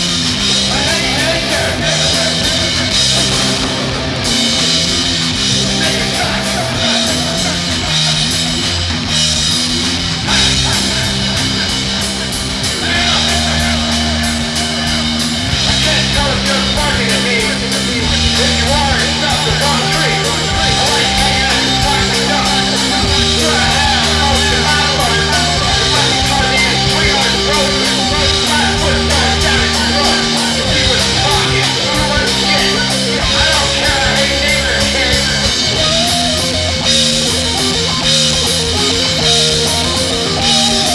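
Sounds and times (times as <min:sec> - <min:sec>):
rock music with guitar and drums: 0:00.0 - 0:40.9.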